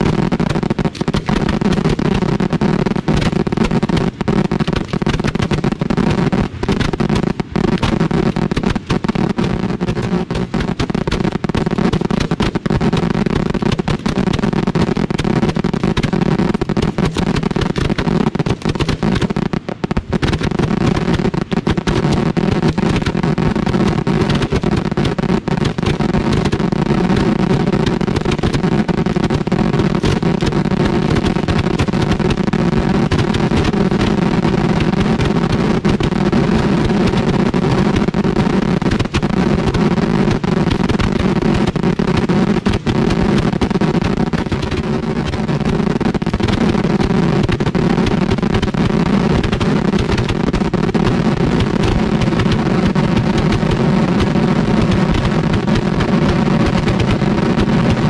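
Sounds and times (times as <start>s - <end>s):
fireworks barrage: 0.0s - 58.0s.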